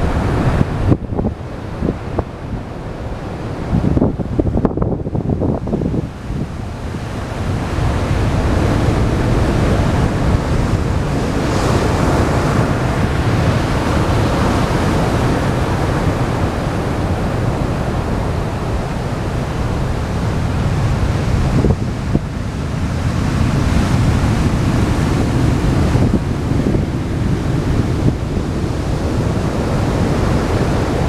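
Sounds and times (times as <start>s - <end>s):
storm surf breaking on beach: 0.0s - 31.0s
wind buffeting microphone: 0.0s - 31.0s.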